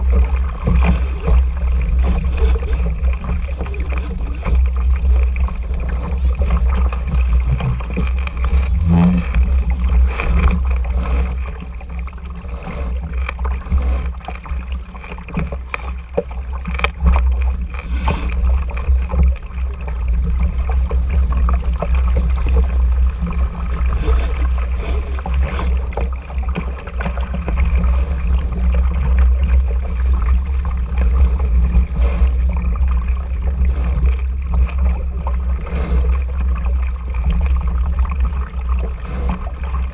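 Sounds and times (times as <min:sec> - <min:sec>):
water rushing past boat: 0:00.0 - 0:39.9
wind rumble on microphone: 0:00.0 - 0:39.9.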